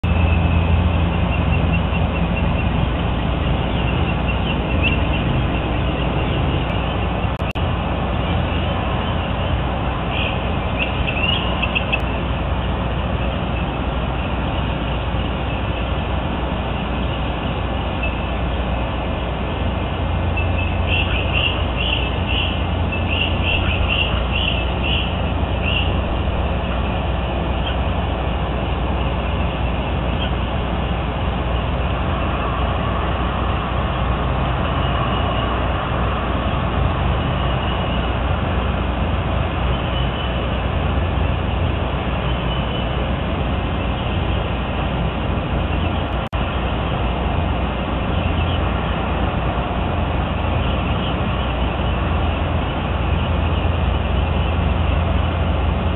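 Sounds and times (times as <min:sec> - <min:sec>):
low outdoor rumble: 0:00.0 - 0:55.9.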